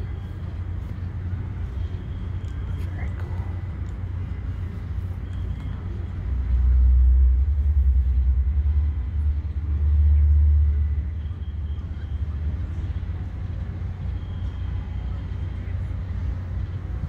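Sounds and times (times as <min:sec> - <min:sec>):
deep low rumble from sound system: 0:00.0 - 0:17.0.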